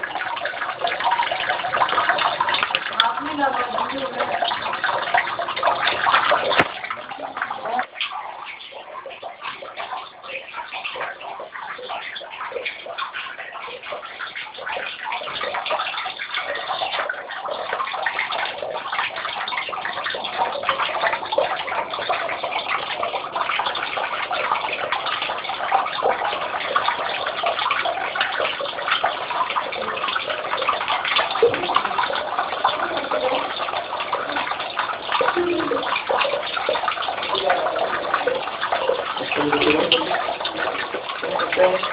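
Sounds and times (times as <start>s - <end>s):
fish splashing and slurping: 0.0s - 41.9s.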